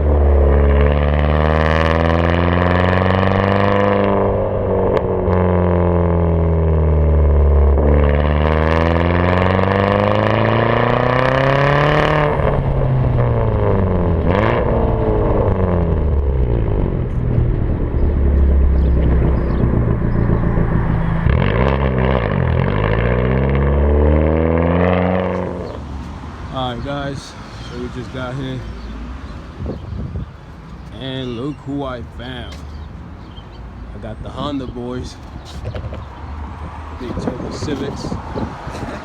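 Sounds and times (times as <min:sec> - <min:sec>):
turbocharged car engine revving: 0:00.0 - 0:39.0.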